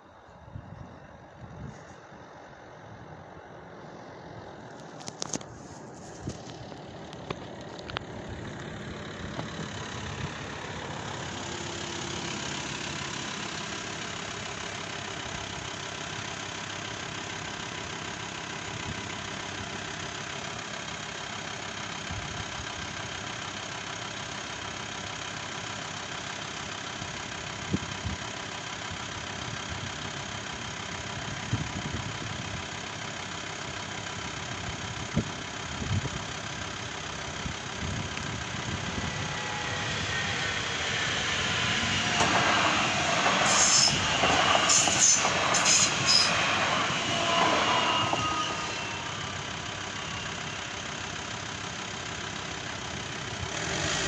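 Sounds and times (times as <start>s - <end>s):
van engine idling: 0.0s - 54.0s.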